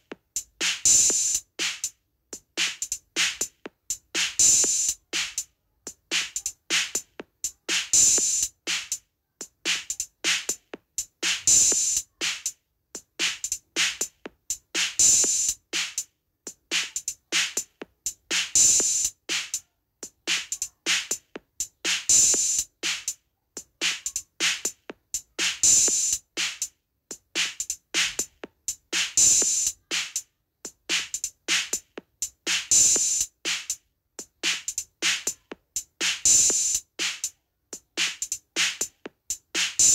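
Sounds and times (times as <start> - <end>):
rhythmic drum beat: 0.0 - 39.9.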